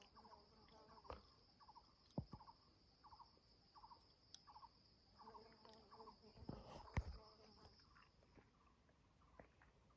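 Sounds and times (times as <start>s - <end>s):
insect chirping: 0.0s - 9.9s
insect drone: 0.0s - 9.9s.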